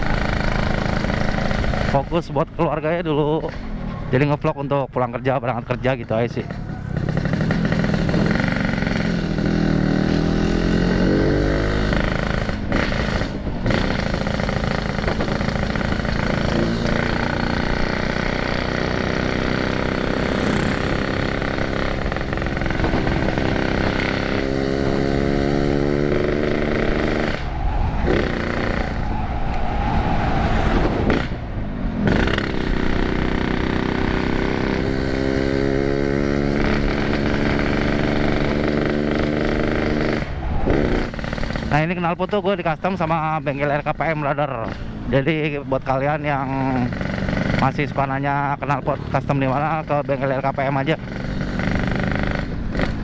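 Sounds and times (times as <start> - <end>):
two-stroke motorcycle engine revving: 0.0 - 2.8, 5.5 - 27.4, 28.1 - 29.0, 32.0 - 53.0.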